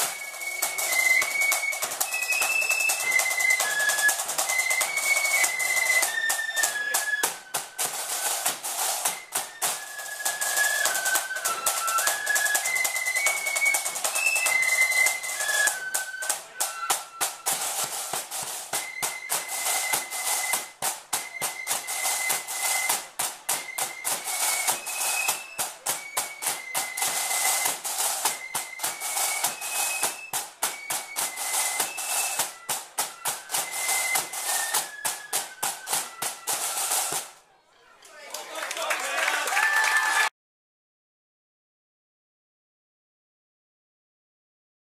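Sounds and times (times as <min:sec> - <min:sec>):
snare drums beating fast: 0:00.0 - 0:37.4
flutes playing melody: 0:00.0 - 0:37.5.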